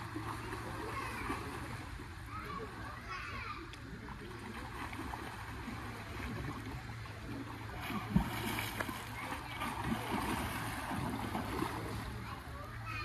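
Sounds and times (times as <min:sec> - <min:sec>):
water splashing and lapping: 0:00.0 - 0:13.0.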